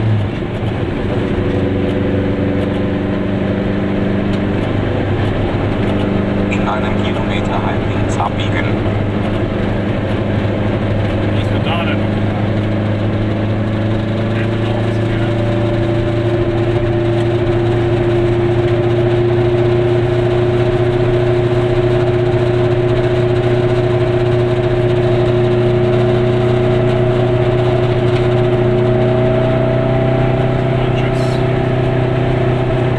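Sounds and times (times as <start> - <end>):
tyre and road noise: 0.0 - 32.9.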